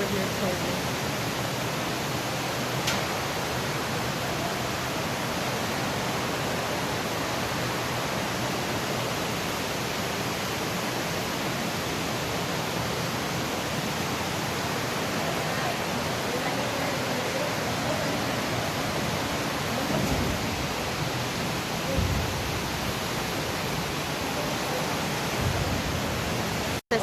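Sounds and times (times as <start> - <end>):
waterfall gushing: 0.0 - 27.0.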